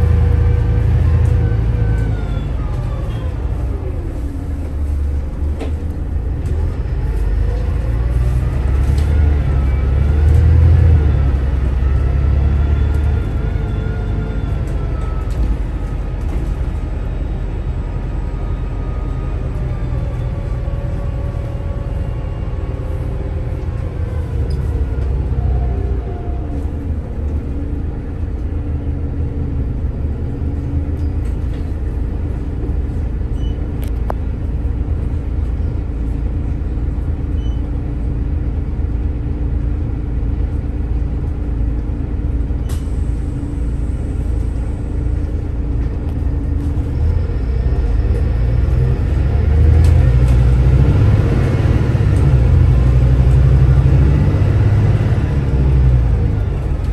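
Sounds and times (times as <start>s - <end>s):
bus diesel engine humming: 0.0s - 56.9s.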